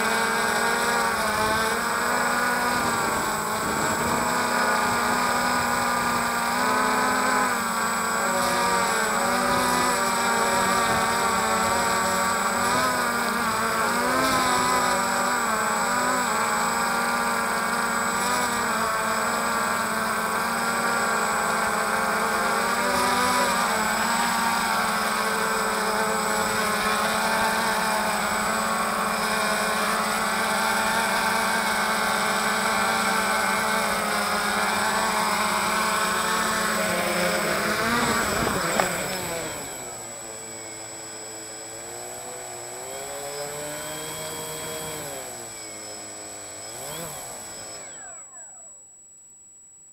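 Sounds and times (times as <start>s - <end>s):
drone propellers buzzing: 0.0s - 48.8s.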